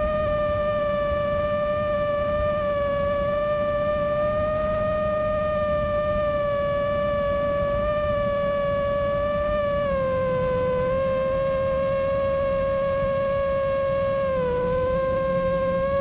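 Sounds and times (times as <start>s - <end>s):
drone motors whining: 0.0s - 16.0s
wind rumble: 0.0s - 16.0s.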